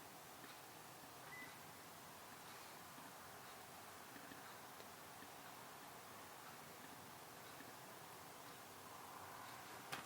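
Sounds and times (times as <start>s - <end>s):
room hiss: 0.0s - 10.0s.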